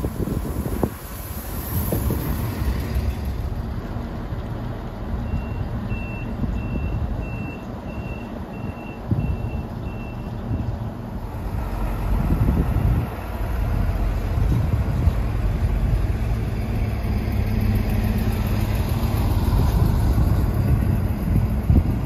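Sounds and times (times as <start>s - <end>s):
diesel railcar engine rumbling: 0.0s - 22.0s.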